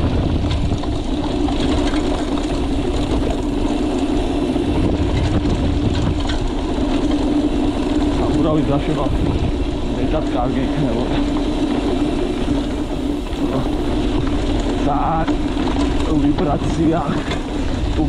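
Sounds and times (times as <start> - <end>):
constant hum: 0.0 - 18.0
vehicle low rumble: 0.0 - 18.0.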